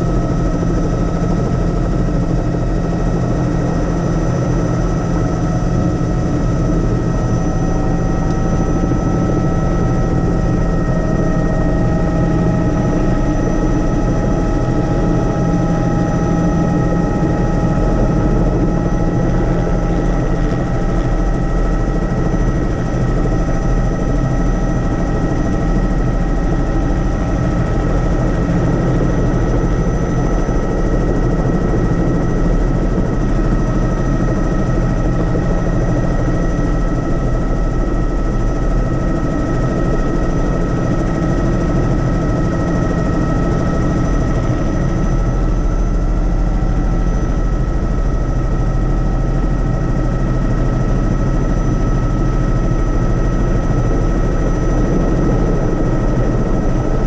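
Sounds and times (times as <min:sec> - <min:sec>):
helicopter rotor and engine drone: 0:00.0 - 0:57.0.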